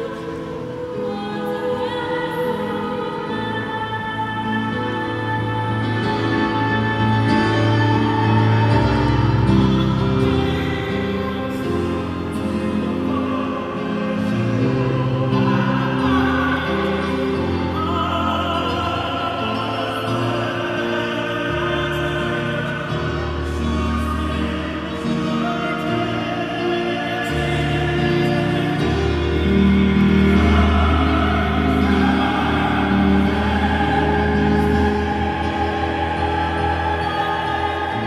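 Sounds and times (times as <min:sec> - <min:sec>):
mixed choir singing held chords: 0:00.0 - 0:38.0.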